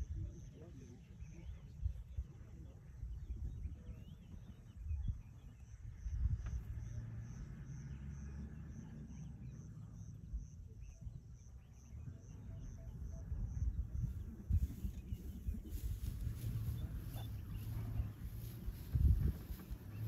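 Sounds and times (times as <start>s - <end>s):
low rumble: 1.6s - 20.0s.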